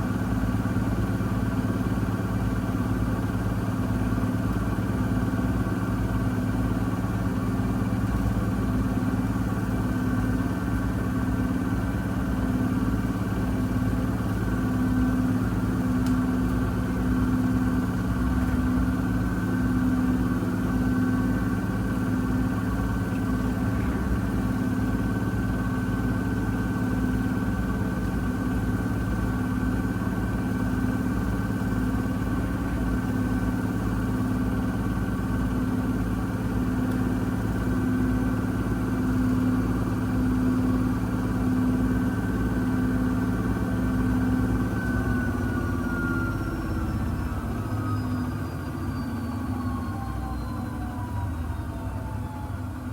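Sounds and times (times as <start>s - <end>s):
washing machine spinning: 1.1s - 52.9s.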